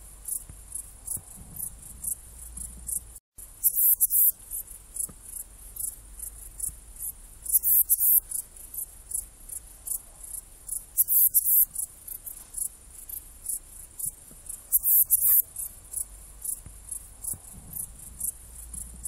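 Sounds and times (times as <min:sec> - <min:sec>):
bush cricket chirping: 0:00.2 - 0:19.0.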